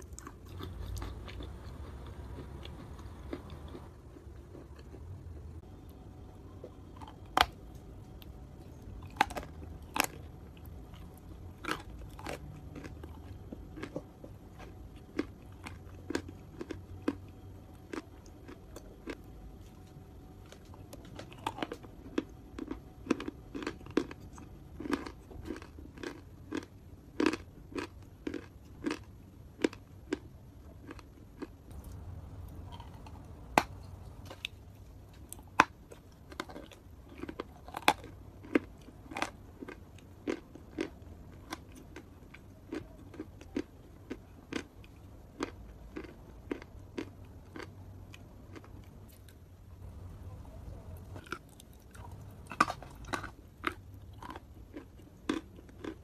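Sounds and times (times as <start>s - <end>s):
person chewing with crunching: 0.0s - 49.4s, 51.0s - 56.0s.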